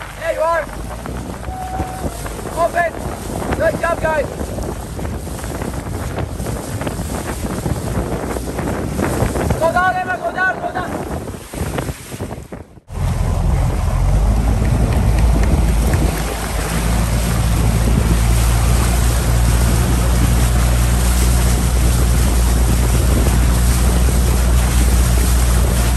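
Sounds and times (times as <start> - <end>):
motorboat engine running: 0.0 - 11.5, 12.8 - 25.9
wind buffeting microphone: 0.0 - 25.9.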